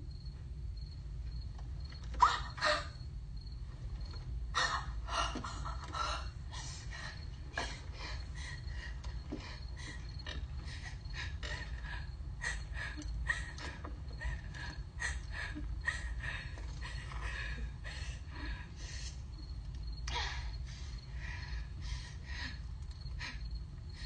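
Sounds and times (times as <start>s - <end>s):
steady low rumble: 0.0s - 24.0s
rapid frightened breathing and gasps: 4.6s - 24.0s.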